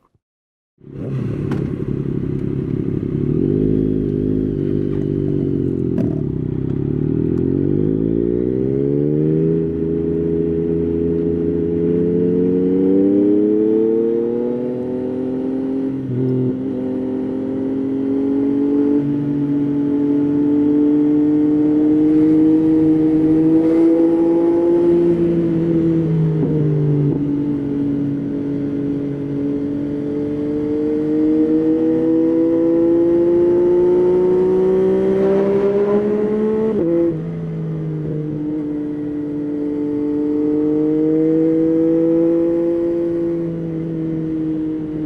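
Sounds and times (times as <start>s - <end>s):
motorcycle engine revving: 0.8s - 45.0s.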